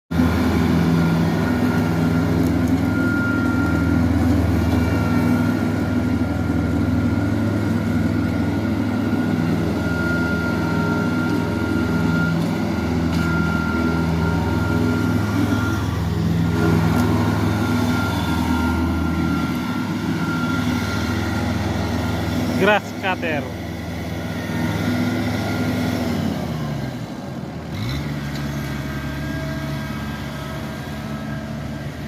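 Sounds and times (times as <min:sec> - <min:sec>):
grass cutter engine humming: 0:00.2 - 0:26.8.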